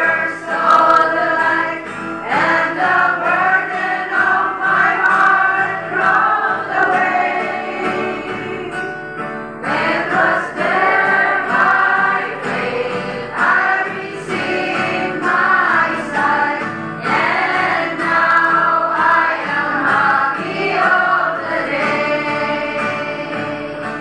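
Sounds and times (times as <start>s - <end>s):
women's choir singing a hymn: 0.0s - 24.0s.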